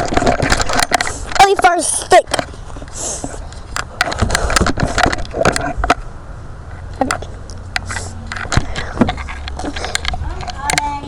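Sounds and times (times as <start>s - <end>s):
sharp clicks and knocks: 0.0s - 6.1s, 6.9s - 11.0s.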